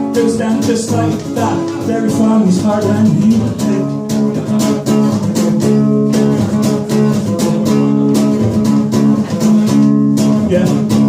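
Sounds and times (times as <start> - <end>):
guitar strummed: 0.0 - 11.0.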